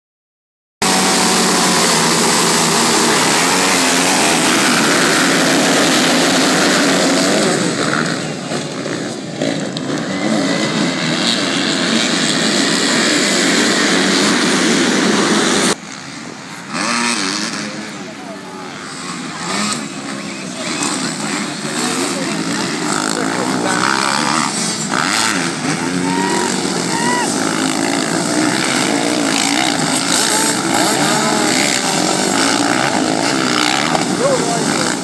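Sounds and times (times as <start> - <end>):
motocross bikes revving: 0.8 - 35.0.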